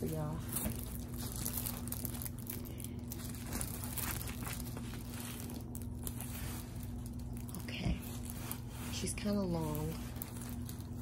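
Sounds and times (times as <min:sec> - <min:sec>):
faint steady hum: 0:00.0 - 0:11.0
plastic film crinkling: 0:00.0 - 0:11.0.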